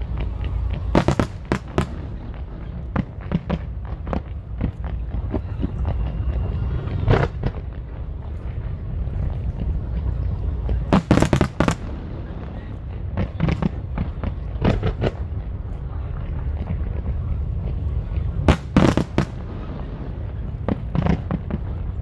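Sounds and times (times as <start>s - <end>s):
fireworks cracking: 0.0s - 22.0s
low rumble of fireworks booms: 0.0s - 22.0s.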